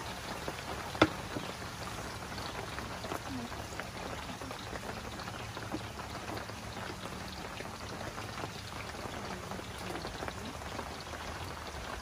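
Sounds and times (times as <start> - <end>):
hot oil sizzling in a pan: 0.0 - 12.0.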